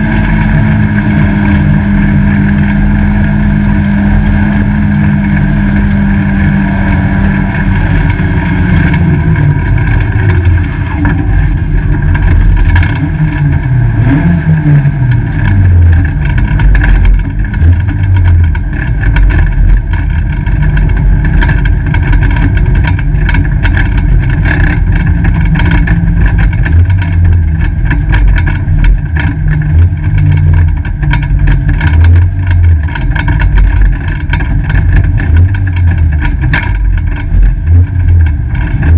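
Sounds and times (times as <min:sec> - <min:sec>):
race car engine from inside: 0:00.0 - 0:38.9.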